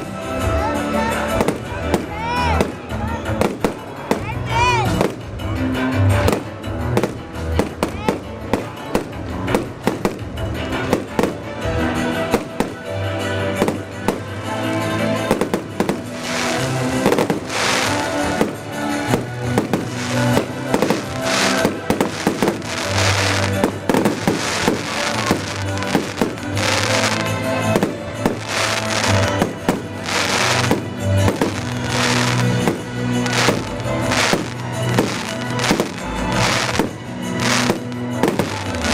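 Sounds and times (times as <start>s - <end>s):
fireworks bangs and crackling: 0.0s - 38.9s
music: 0.0s - 38.9s.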